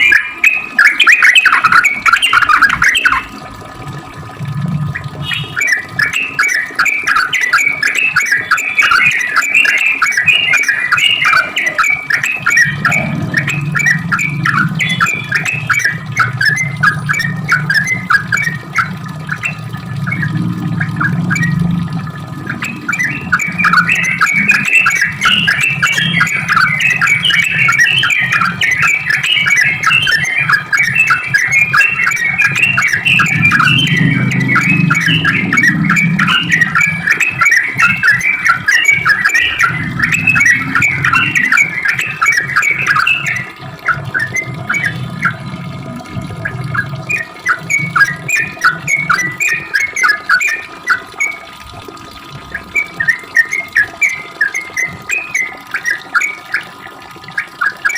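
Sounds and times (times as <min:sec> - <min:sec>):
bulbul chattering song: 0:00.0 - 0:03.4, 0:04.8 - 0:57.9.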